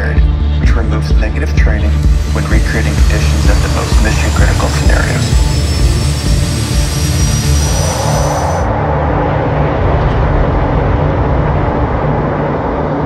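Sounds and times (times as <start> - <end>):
high engine whine: 0.0 - 13.0
jet engine rushing: 1.7 - 13.0.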